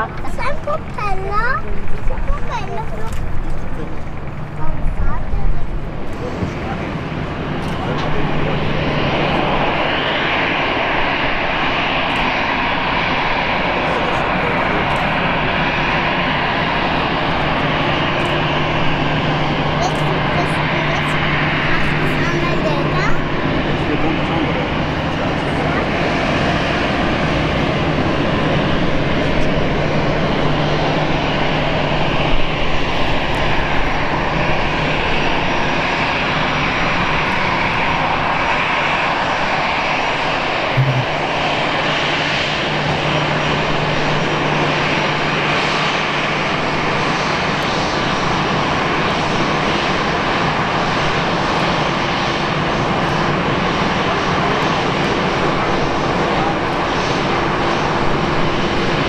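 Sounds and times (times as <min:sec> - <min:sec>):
jet engine rumble and whine: 0:00.0 - 0:59.0.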